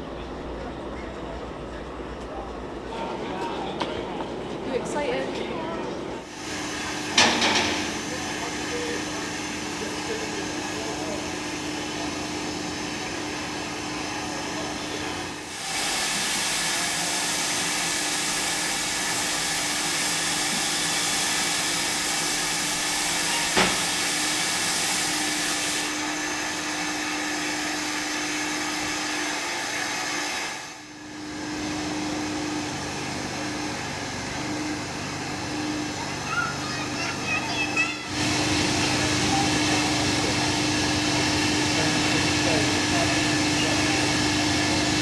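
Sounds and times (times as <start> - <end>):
steam locomotive hissing: 6.2 - 45.0.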